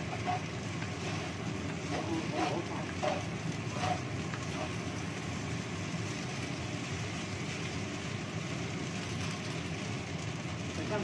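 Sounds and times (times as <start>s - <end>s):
food sizzling in a wok: 0.0s - 11.0s
gas burner rumble: 0.0s - 11.0s.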